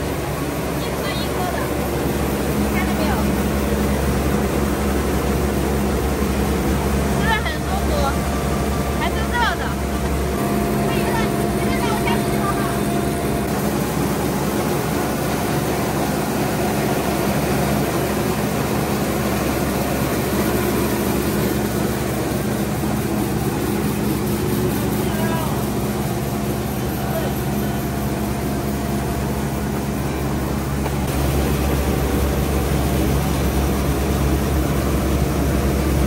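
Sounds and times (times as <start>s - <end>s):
rice milling machine running: 0.0s - 36.0s.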